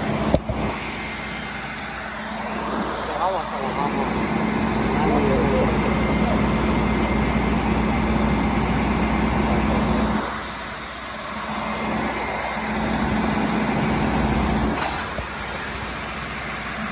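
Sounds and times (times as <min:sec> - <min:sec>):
city street traffic: 0:00.0 - 0:16.9.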